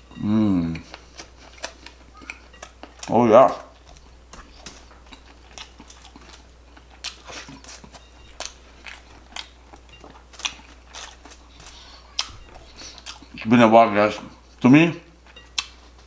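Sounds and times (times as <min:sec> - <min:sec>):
close chewing with wet mouth smacks: 0:00.7 - 0:13.5, 0:15.2 - 0:16.0.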